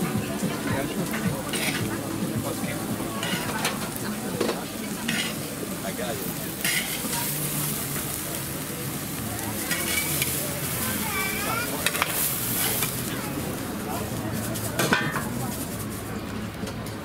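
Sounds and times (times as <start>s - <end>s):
food sizzling: 0.0s - 16.1s
cooking utensils scraping and clinking: 0.4s - 13.2s, 14.0s - 16.2s.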